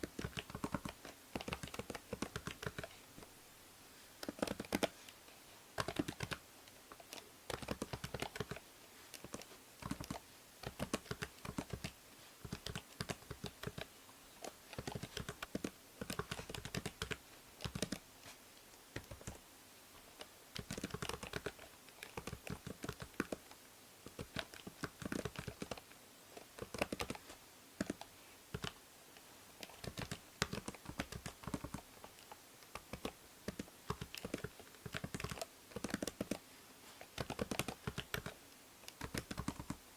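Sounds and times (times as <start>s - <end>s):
keyboard typing: 0.0s - 2.9s, 4.2s - 5.0s, 5.8s - 18.1s, 19.0s - 19.4s, 20.6s - 28.8s, 29.6s - 36.4s, 37.1s - 39.8s
microphone hiss: 0.0s - 39.9s.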